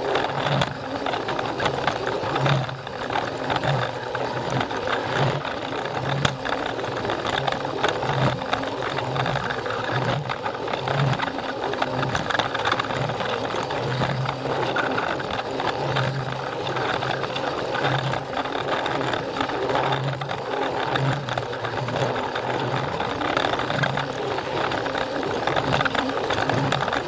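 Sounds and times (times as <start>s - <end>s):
toy train motor whirring: 0.0s - 27.0s.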